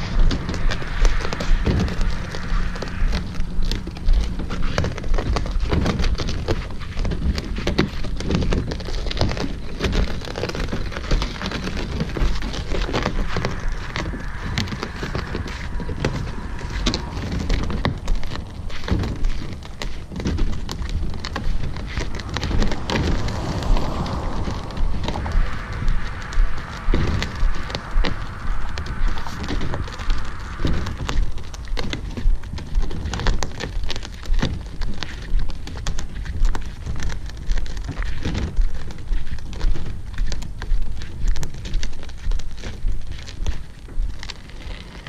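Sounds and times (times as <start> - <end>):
boat hull rolling over gravel: 0.0 - 45.0.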